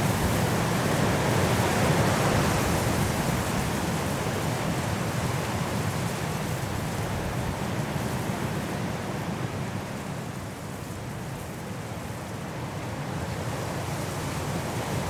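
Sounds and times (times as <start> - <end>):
strong wind through trees: 0.0 - 15.0.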